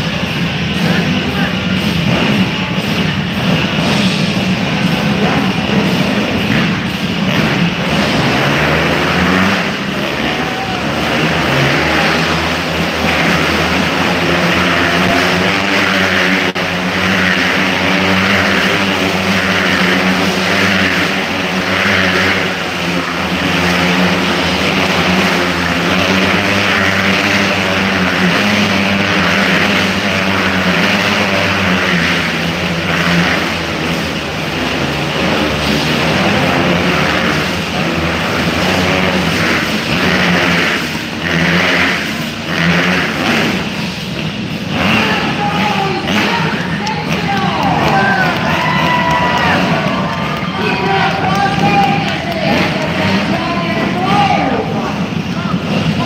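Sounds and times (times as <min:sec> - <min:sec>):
motorcycle engines at high revs: 0:00.0 - 0:56.0.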